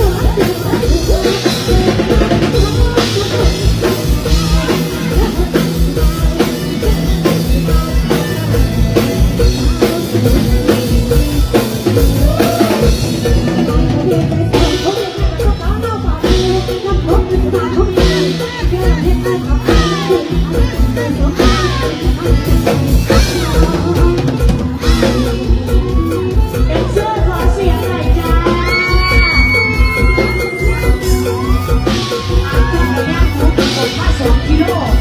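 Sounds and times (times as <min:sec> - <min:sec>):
drum kit beat: 0:00.0 - 0:35.0
live band music over pa: 0:00.0 - 0:35.0
sustained bass notes: 0:00.0 - 0:35.0.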